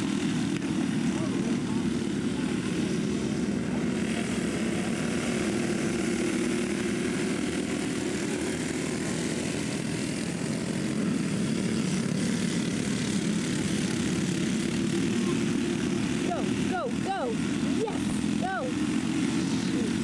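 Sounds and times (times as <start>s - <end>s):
go-kart engines buzzing: 0.0s - 20.0s.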